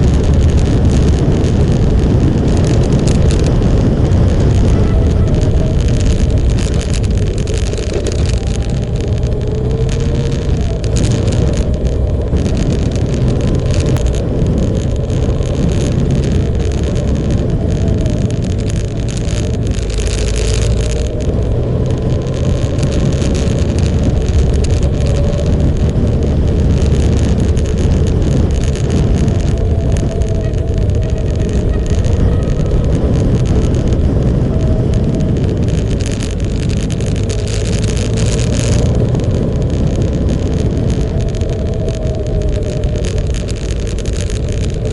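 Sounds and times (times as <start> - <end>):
motorcycle engine running: 0.0 - 44.9
wind noise: 0.0 - 44.9.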